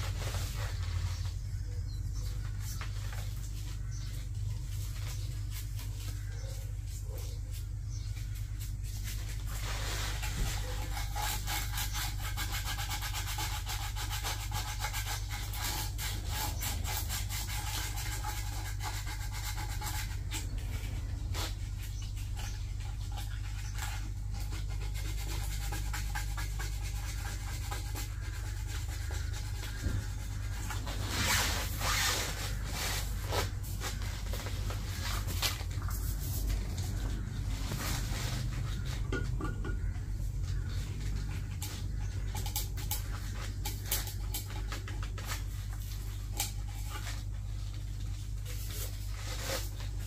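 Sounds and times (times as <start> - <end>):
hands scraping a floor drain: 0.0 - 50.0
steady low hum: 0.0 - 50.0.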